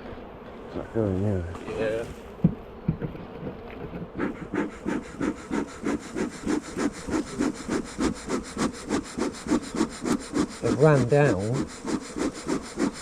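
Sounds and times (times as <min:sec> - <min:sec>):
rapid back-and-forth scraping: 0:01.6 - 0:13.0.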